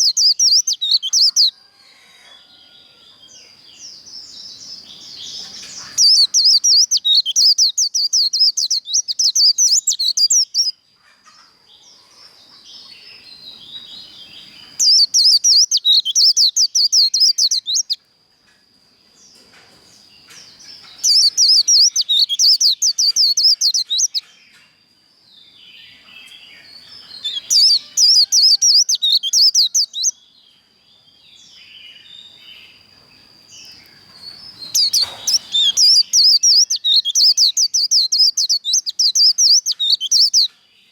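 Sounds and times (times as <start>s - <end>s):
bird twittering song: 0.0s - 1.6s, 3.0s - 18.1s, 19.2s - 40.9s.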